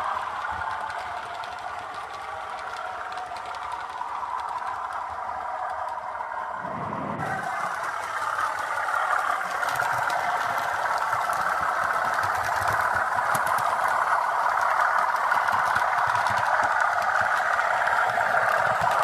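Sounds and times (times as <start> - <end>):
diesel engine through small speaker: 0.0 - 19.0.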